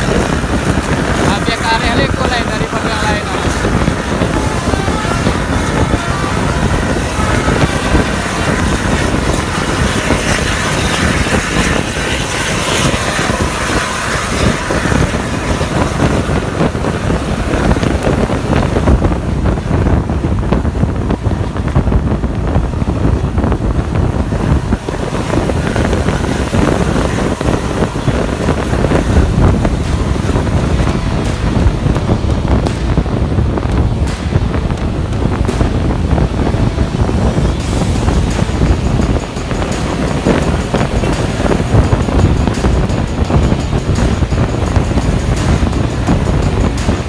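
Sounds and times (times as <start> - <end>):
bus diesel engine droning: 0.0 - 47.0
road and wind noise: 0.0 - 47.0.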